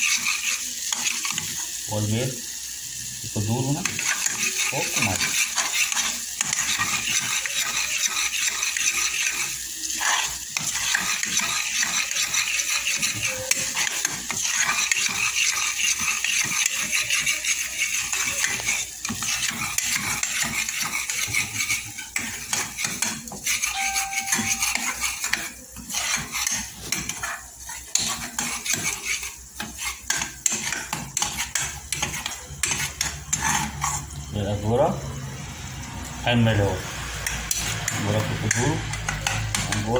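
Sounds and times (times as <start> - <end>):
wooden spatula scraping metal pot: 0.0 - 1.7, 3.5 - 34.2, 37.2 - 39.9
oil sizzling: 0.0 - 39.9.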